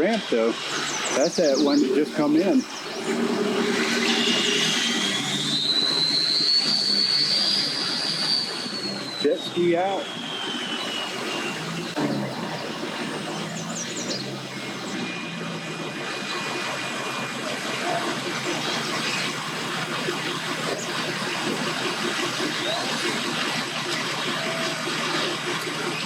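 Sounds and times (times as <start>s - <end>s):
engines running: 0.0s - 26.0s
outdoor noise: 0.0s - 26.0s.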